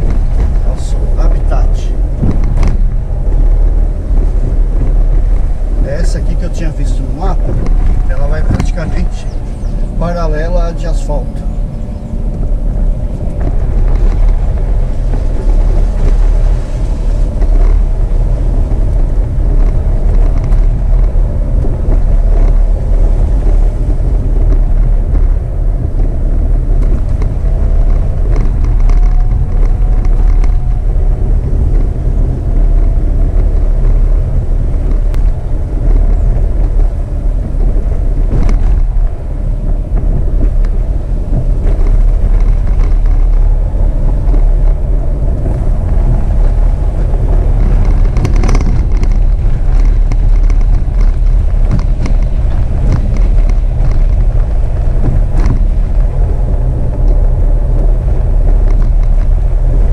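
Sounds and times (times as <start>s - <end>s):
car driving on dirt road: 0.0s - 59.9s.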